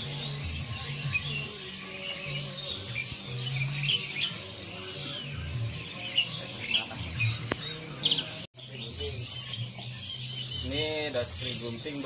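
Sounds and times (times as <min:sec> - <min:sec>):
background music: 0:00.0 - 0:12.0
songbirds chirping and whistling: 0:00.0 - 0:12.0.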